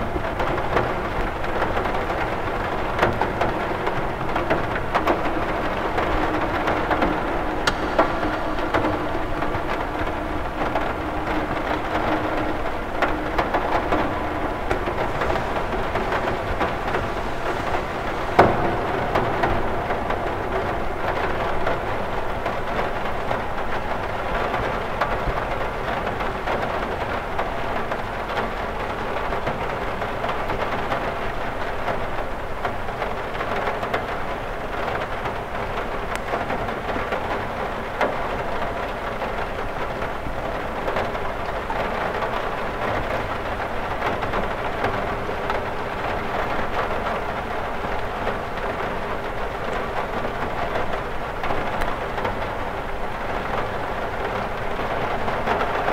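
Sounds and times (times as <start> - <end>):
rain on a window: 0.0 - 55.9.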